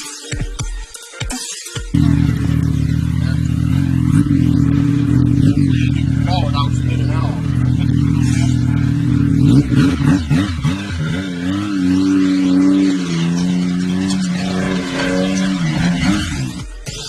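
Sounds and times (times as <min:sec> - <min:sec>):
snowmobile engine revving: 0:02.0 - 0:17.0.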